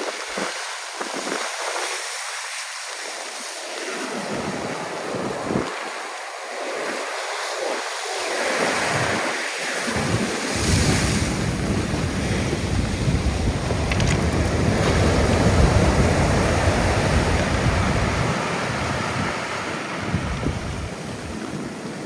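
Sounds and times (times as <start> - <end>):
wind buffeting microphone: 3.7 - 22.0
storm surf breaking: 4.0 - 22.0.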